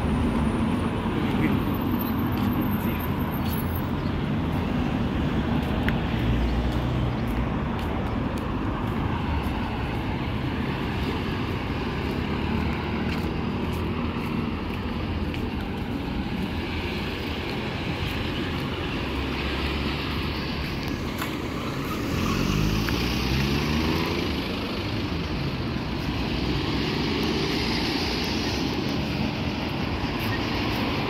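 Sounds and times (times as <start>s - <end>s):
cars passing on city road: 0.0s - 31.0s.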